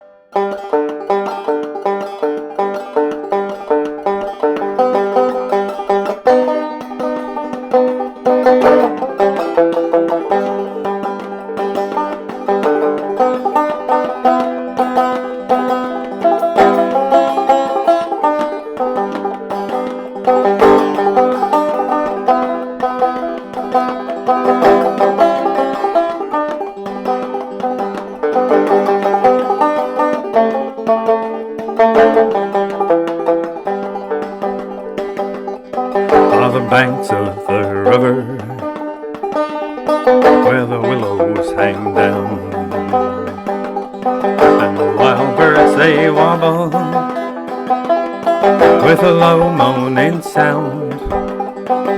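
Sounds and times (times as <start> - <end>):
banjo plucked clawhammer style: 0.0 - 51.9.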